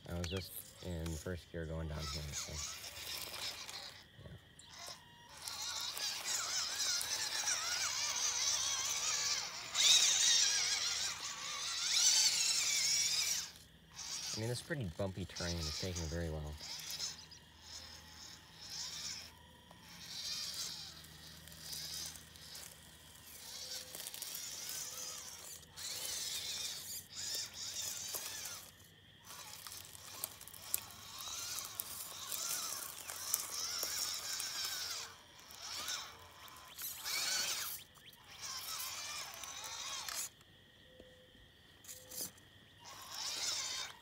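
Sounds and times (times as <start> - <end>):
small electric motor whining: 0.0 - 44.0.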